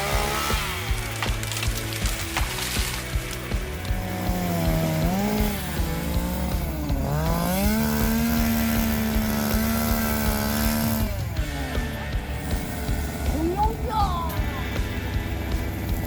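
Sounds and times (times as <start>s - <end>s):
chainsaw running: 0.0s - 16.0s.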